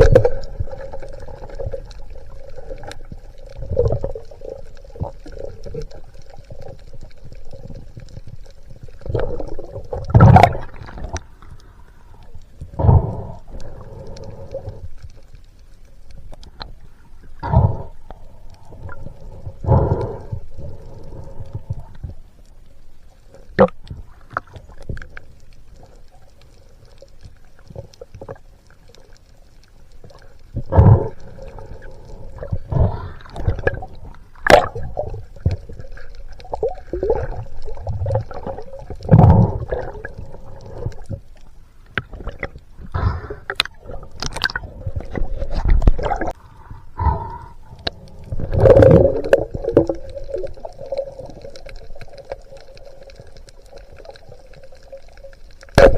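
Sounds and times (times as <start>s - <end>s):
muffled water gurgling and sloshing: 0.0s - 55.9s.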